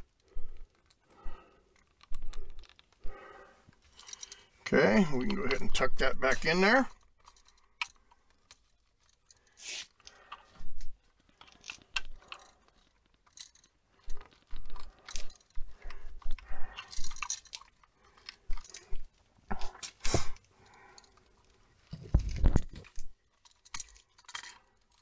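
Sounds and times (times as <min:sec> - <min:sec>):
wires crackling and scraping: 0:00.0 - 0:25.0.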